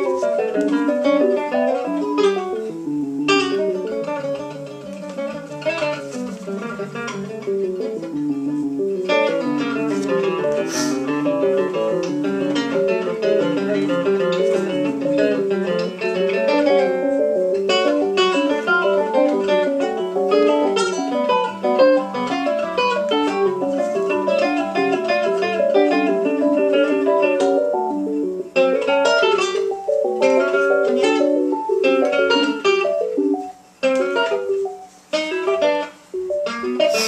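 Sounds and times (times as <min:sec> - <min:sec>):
plucked guitar melody: 0:00.0 - 0:37.0.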